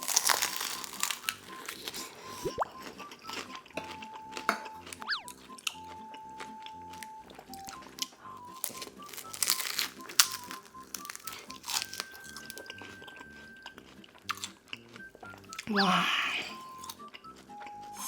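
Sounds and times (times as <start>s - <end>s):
crunchy biting and chewing: 0.0s - 15.7s, 16.5s - 18.0s
light background music: 0.0s - 18.0s.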